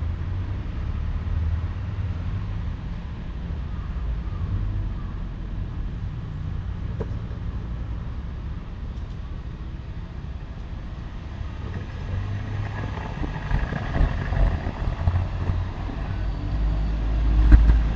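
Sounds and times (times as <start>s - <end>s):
low steady engine rumble: 0.0s - 17.9s.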